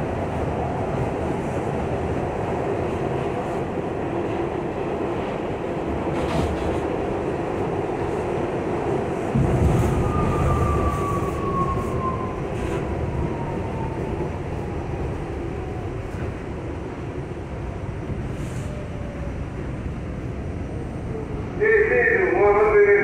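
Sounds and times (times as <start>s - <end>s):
subway car rumbling on track: 0.0s - 23.0s.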